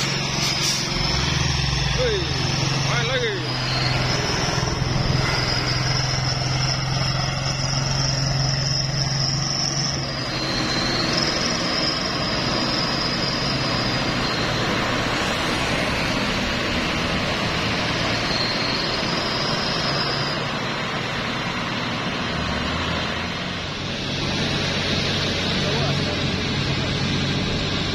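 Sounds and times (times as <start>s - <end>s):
diesel truck engine drone: 0.0s - 27.9s
traffic rumble: 0.0s - 27.9s.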